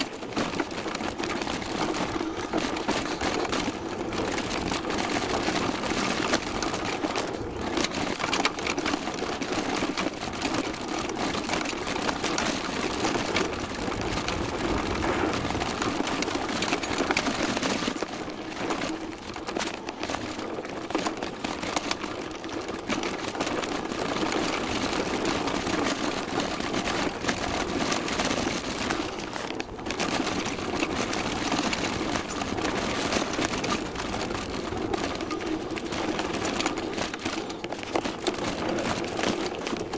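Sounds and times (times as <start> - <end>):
mountain bike rattling on trail: 0.0 - 39.9
tyre noise: 0.0 - 39.9.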